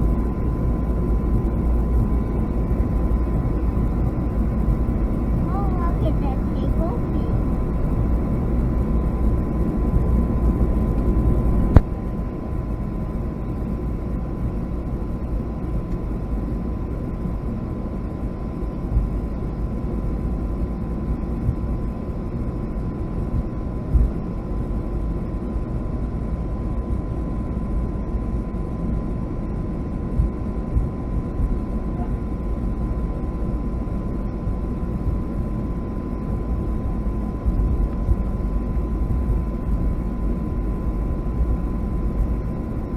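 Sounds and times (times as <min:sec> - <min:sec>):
airplane cabin engine noise: 0:00.0 - 0:42.9.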